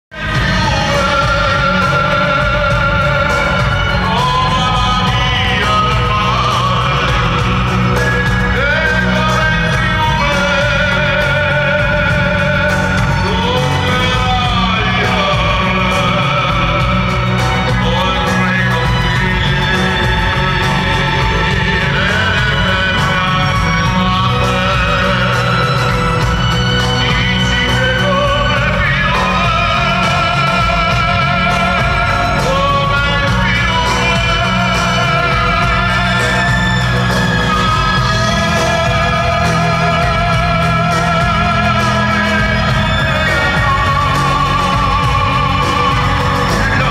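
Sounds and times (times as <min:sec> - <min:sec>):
live rock band: 0:00.1 - 0:46.9
person singing long notes: 0:00.1 - 0:46.9.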